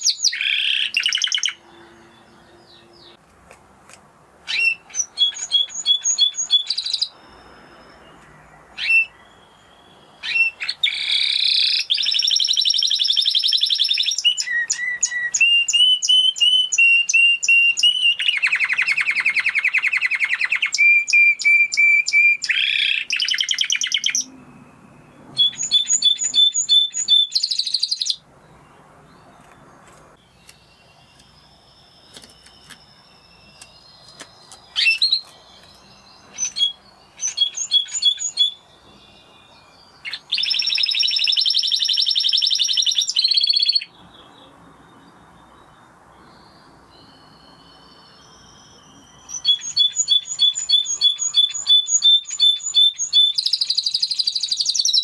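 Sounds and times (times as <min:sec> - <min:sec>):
canary singing trills: 0:00.0 - 0:03.2, 0:04.5 - 0:55.0.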